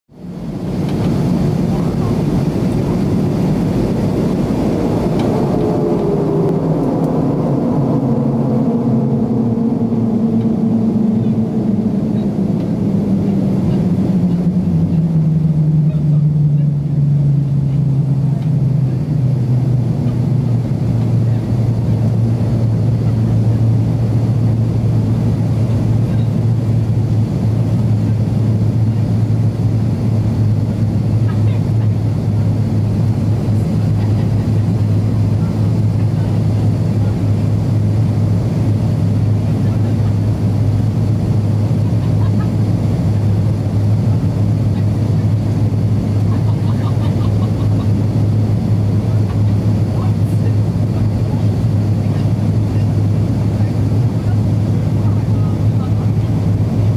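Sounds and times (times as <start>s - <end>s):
jet engine hum: 0.1s - 56.9s
aircraft cabin rush: 0.2s - 56.9s.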